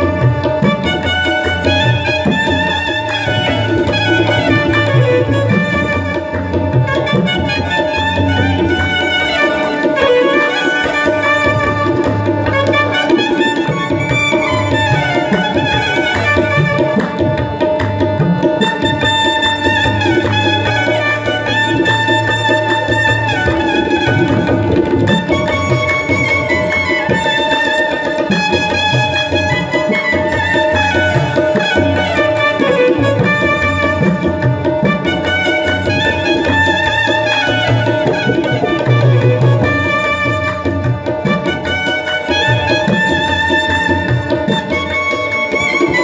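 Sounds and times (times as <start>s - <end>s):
hand drum percussion: 0.0s - 46.0s.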